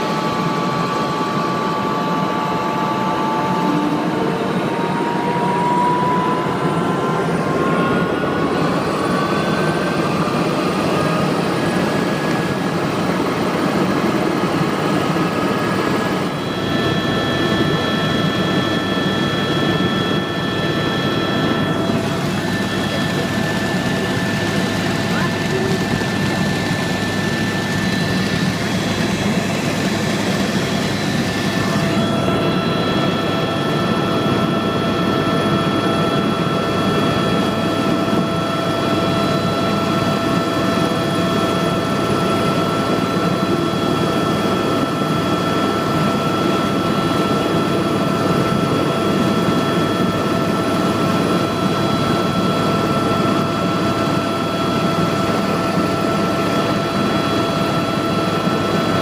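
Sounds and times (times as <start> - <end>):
helicopter engine and rotor: 0.0 - 59.0
steady whining tones: 0.0 - 59.0.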